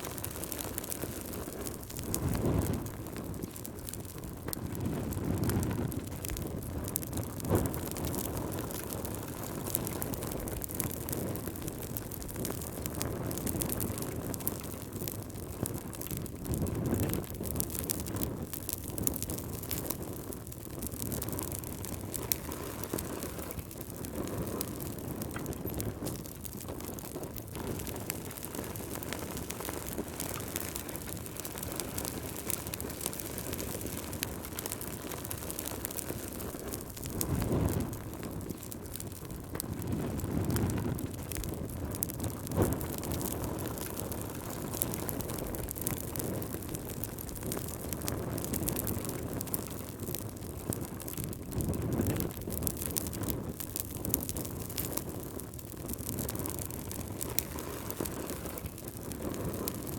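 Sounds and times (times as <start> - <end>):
gusting wind: 0.0 - 59.9
wood fire crackling: 0.0 - 59.9.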